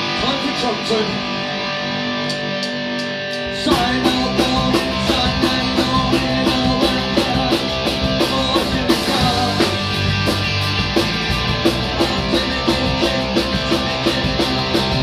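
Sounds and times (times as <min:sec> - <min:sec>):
electric guitar chords: 0:00.0 - 0:15.0
punk rock band playing: 0:00.0 - 0:15.0.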